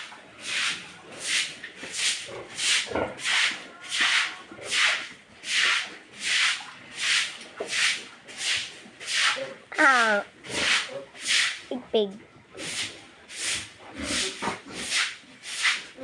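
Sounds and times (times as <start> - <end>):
brush scrubbing pig hide: 0.0 - 9.6, 10.5 - 11.7, 12.6 - 16.0.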